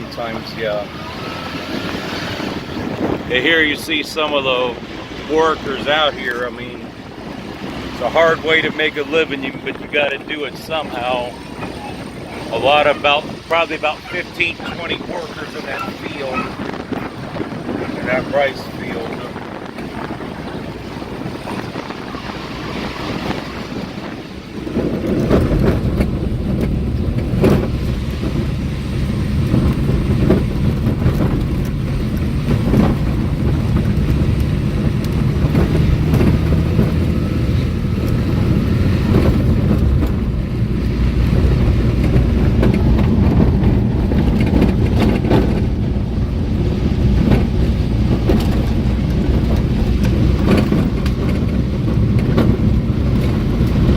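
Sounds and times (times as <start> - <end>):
vehicle road and engine rumble: 0.0 - 53.9
wind on microphone: 0.0 - 53.9.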